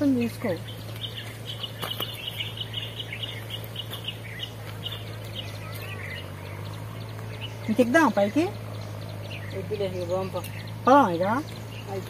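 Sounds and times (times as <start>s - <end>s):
bird chirping: 0.0s - 12.0s
steady low hum: 0.0s - 12.0s.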